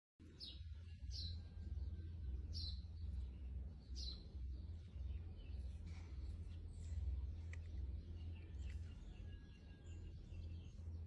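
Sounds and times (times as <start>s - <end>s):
bird chirping: 0.2s - 11.0s
steady low rumble: 0.2s - 11.0s.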